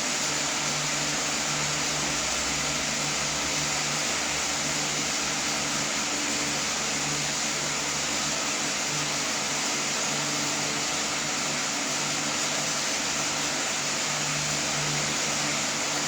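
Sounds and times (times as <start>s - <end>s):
steady mechanical whir: 0.1s - 16.0s.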